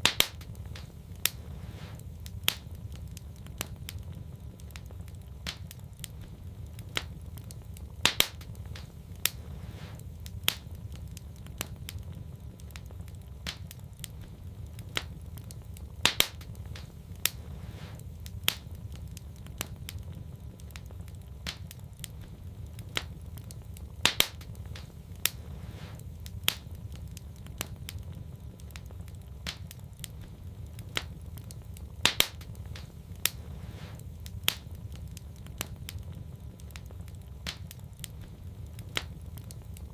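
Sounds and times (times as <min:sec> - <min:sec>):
low rumble: 0:00.0 - 0:39.9
sharp pops of fire: 0:00.0 - 0:39.9
wood fire crackling: 0:00.0 - 0:39.9.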